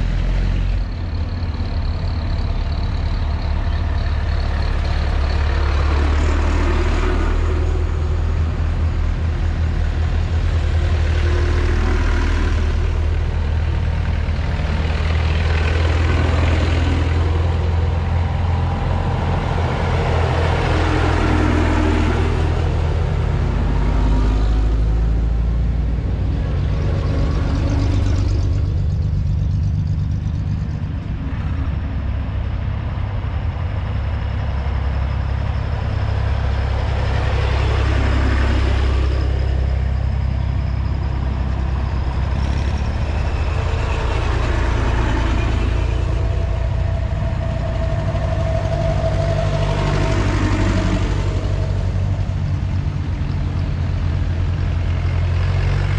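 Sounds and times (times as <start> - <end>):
vehicles driving past: 0.0 - 55.9.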